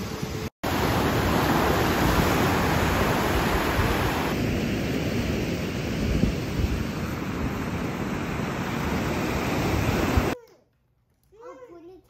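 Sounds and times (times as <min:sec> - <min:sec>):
waves breaking: 0:00.6 - 0:10.4
wind rumbling on microphone: 0:00.6 - 0:10.4.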